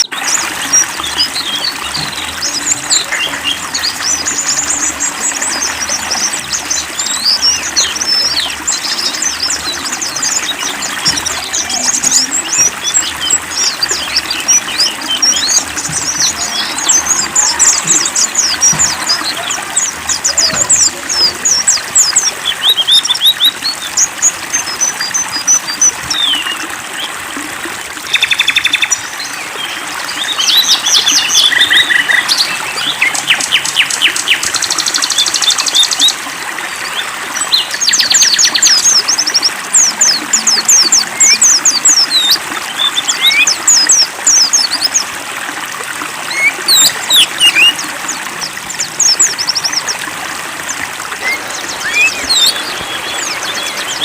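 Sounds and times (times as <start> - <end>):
songbirds chirping and trilling: 0.0 - 54.0
water trickling: 0.0 - 54.0.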